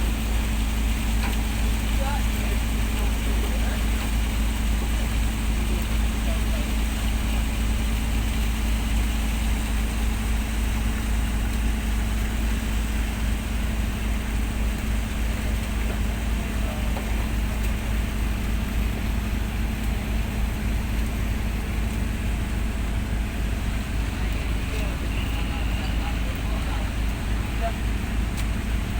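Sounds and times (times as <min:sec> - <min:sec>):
boat engine rumbling: 0:00.0 - 0:28.9.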